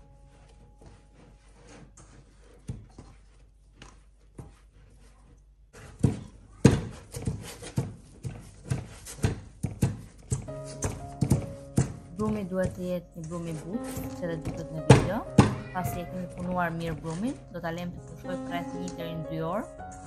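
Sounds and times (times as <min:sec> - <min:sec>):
dough squishing: 0:00.0 - 0:20.0.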